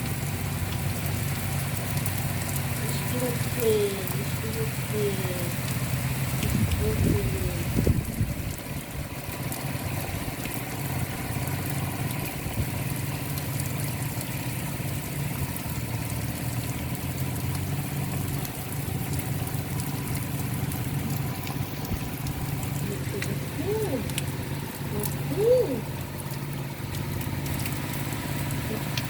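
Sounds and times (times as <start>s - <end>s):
engine humming steadily: 0.0s - 29.0s.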